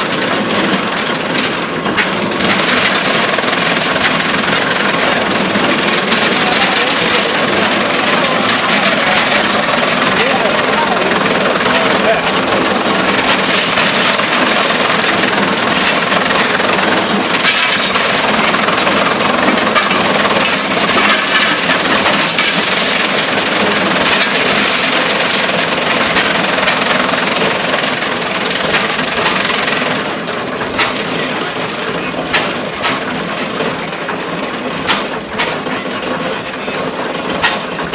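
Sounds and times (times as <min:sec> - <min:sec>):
fodder cutter chopping stalks: 0:00.0 - 0:37.9
gas engine running: 0:00.0 - 0:37.9.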